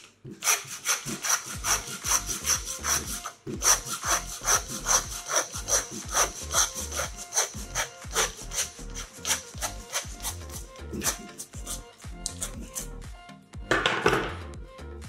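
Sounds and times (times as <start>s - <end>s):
hand saw cutting through bone: 0.3s - 12.9s.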